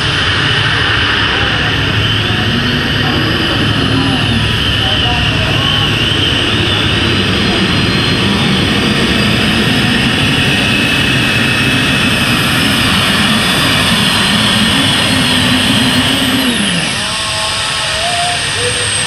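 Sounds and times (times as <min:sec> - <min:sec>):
pulling tractor engines roaring: 0:00.0 - 0:19.0.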